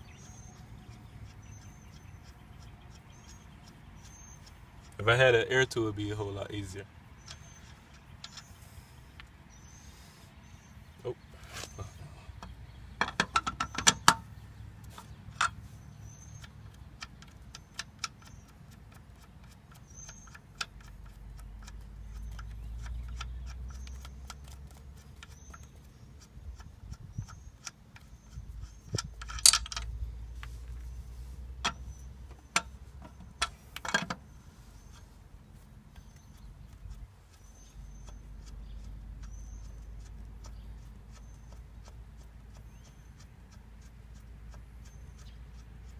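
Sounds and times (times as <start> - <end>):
lug nuts clinking: 0.0 - 9.8, 11.6 - 30.9, 31.6 - 45.4.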